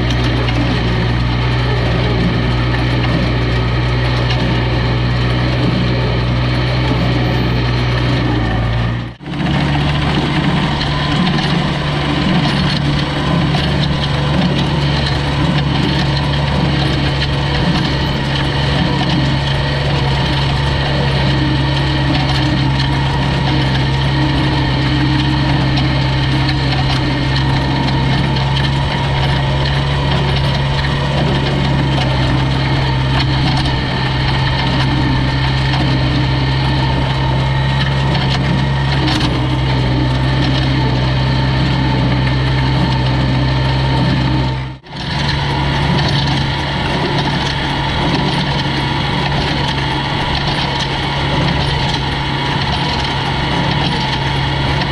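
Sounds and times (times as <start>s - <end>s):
hay baler running: 0.0s - 54.9s
tractor engine under load: 0.0s - 54.9s.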